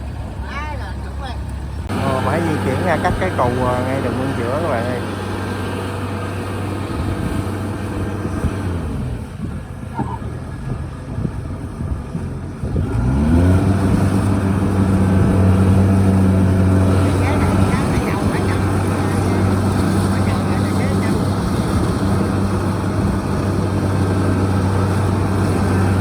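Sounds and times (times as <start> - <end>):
harvester diesel engine running: 0.0 - 26.0.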